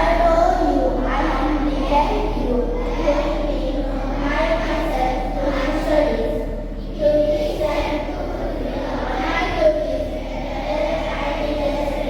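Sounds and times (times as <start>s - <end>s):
children singing together: 0.0s - 12.0s
steady low hum: 0.0s - 12.0s.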